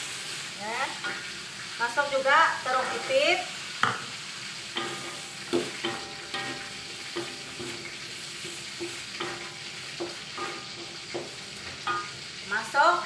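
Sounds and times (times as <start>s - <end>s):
spatula scraping and knocking wok: 0.0s - 1.8s, 2.4s - 13.0s
food sizzling: 0.0s - 13.0s.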